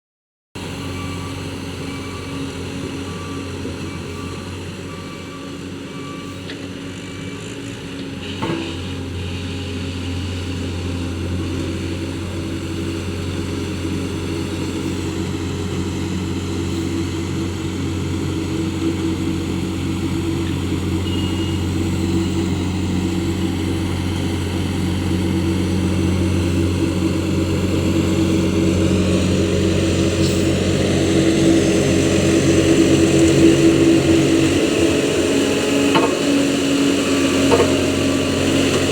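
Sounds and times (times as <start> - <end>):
diesel engine running: 0.6 - 38.9.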